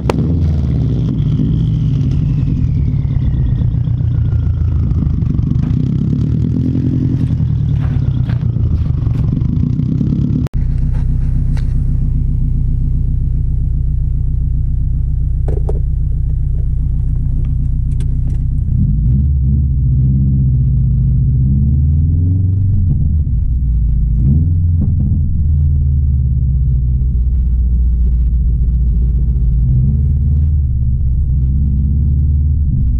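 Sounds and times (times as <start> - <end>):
car engine droning on the move: 0.0 - 32.9.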